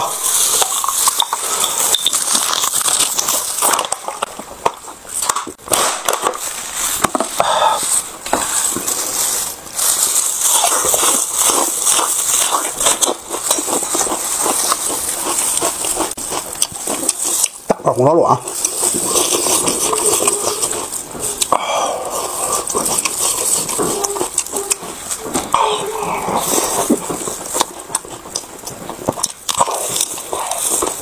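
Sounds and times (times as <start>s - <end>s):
plastic bottle crinkling: 0.0s - 17.7s, 18.4s - 21.5s, 22.1s - 31.0s
crunching bites and chewing: 0.0s - 31.0s.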